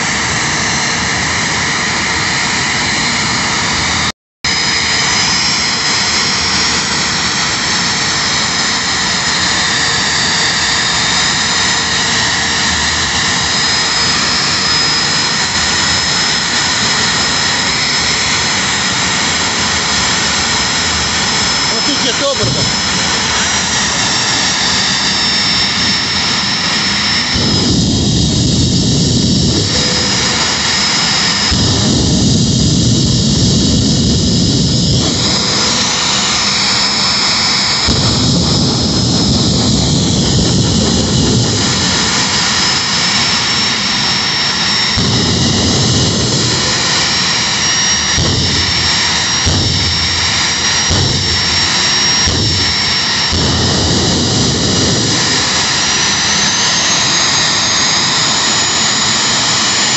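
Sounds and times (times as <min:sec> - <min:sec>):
jet engine roaring and whining: 0:00.0 - 0:59.9.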